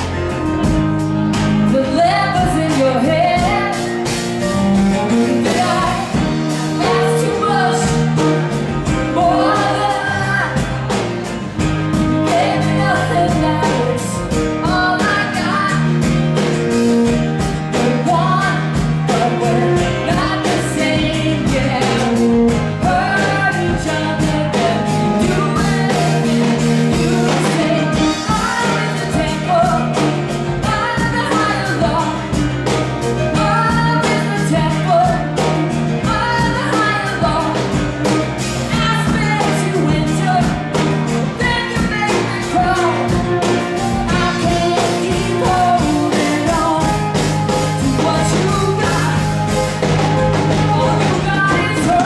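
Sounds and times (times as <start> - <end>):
live band playing: 0.0 - 52.0
woman singing: 0.6 - 4.2, 5.1 - 11.0, 11.6 - 16.6, 17.4 - 52.0.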